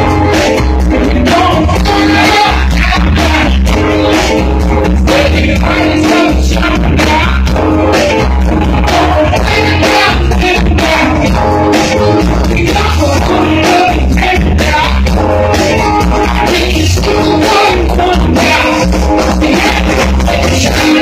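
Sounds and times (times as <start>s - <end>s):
drums: 0.0s - 21.0s
electric guitar: 0.0s - 21.0s
electric keyboard: 0.0s - 21.0s.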